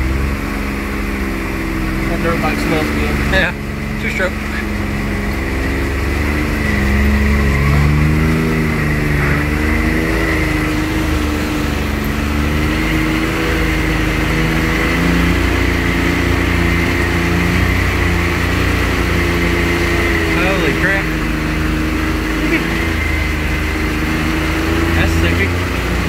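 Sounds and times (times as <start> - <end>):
engine running under load: 0.0 - 26.0.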